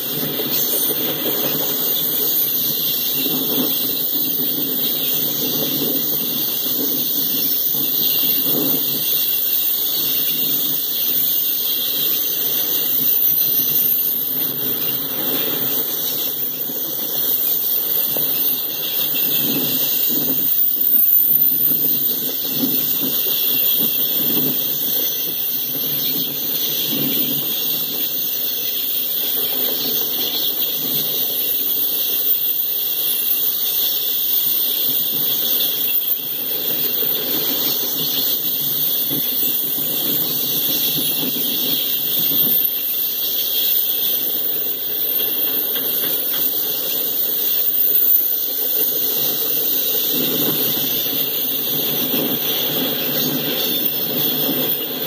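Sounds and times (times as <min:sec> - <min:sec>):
train wheels rolling on rails: 0:00.0 - 0:55.0
wheels squealing: 0:00.0 - 0:55.0.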